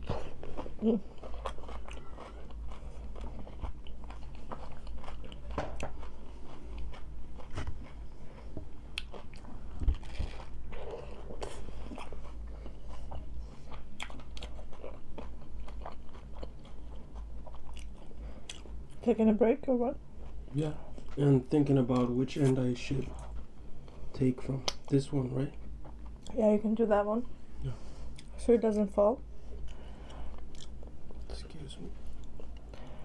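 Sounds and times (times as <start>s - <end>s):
chewing and crunching tacos: 0.0s - 26.4s, 29.4s - 33.0s.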